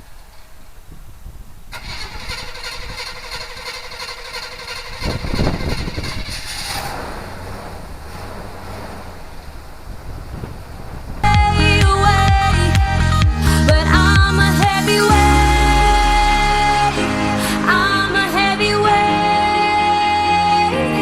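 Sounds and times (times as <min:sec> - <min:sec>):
engine running and revving: 0:01.8 - 0:19.1.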